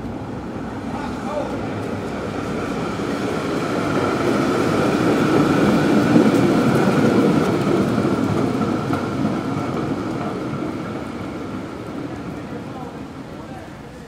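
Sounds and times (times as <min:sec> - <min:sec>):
streetcar rumbling past: 0:00.0 - 0:14.0
streetcar whine: 0:00.0 - 0:14.0.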